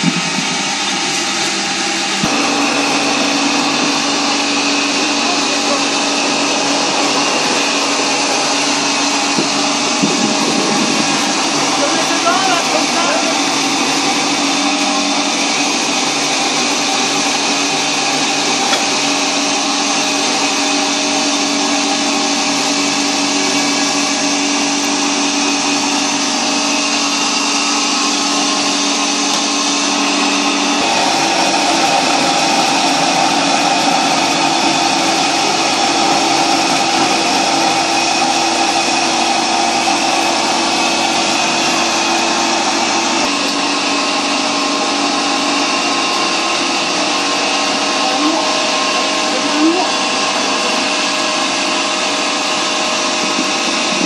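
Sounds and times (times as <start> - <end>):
fruit mill motor running: 0.0 - 54.0.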